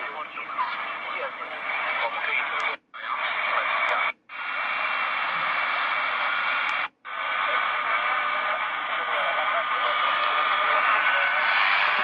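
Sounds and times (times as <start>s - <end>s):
shortwave radio static and hiss: 0.0s - 12.0s.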